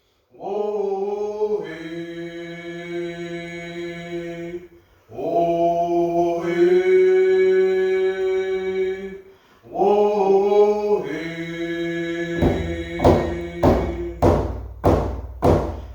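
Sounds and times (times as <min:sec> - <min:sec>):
person chanting a song: 0:00.3 - 0:15.9.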